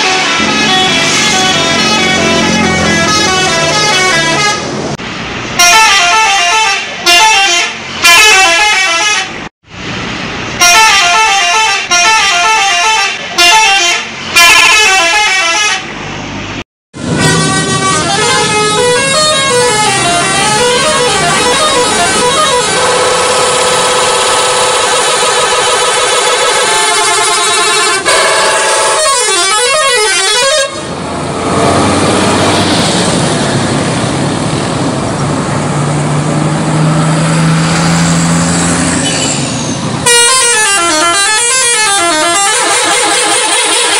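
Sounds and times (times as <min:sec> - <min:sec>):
multi-tone bus horns playing tunes: 0:00.0 - 0:05.0, 0:05.6 - 0:09.5, 0:10.6 - 0:16.0, 0:17.0 - 0:32.6, 0:36.7 - 0:43.9.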